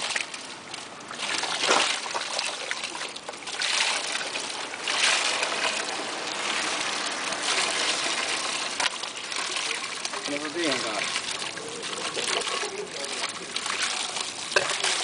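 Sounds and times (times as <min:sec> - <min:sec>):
liquid spraying from a hose: 0:01.2 - 0:15.0.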